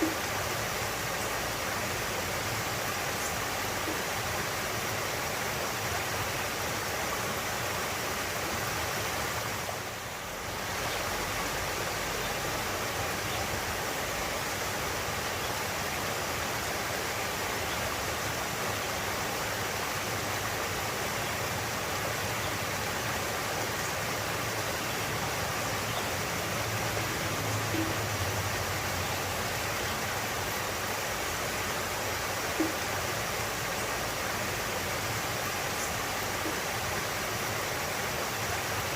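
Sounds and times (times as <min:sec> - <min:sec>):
fast-flowing water rushing: 0:00.0 - 0:38.9.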